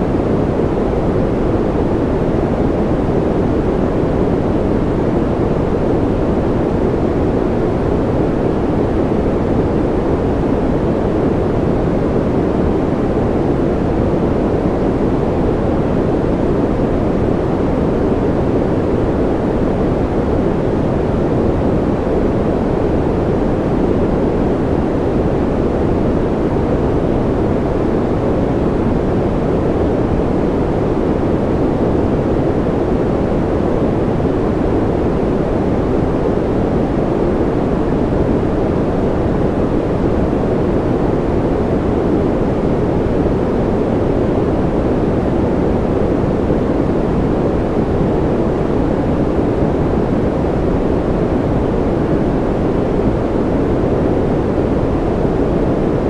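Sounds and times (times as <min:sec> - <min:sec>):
deep muffled white noise: 0:00.0 - 0:56.0.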